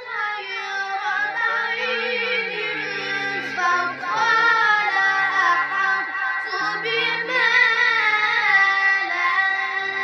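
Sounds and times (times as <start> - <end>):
boy chanting melodically: 0.0 - 10.0.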